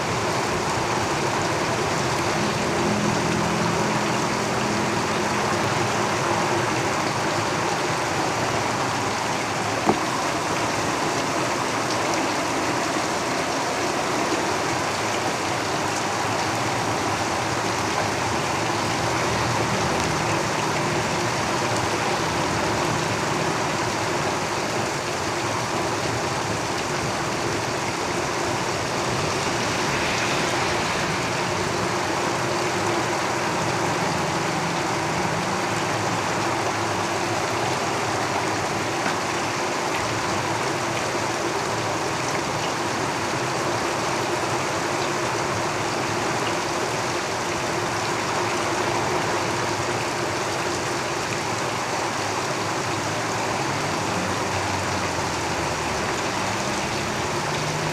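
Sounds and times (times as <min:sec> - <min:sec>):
heavy rain on a tin roof: 0:00.0 - 0:57.9
road traffic rumble: 0:00.0 - 0:57.9.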